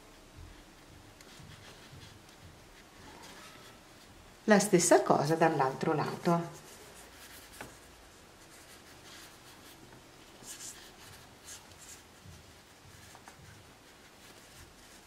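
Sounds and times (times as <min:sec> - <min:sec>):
fabric rustling: 0:00.0 - 0:15.0.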